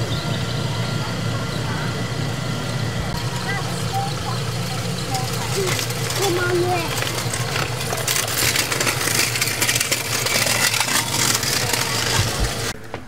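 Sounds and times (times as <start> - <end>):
car engine idling with rattle: 0.0 - 13.0.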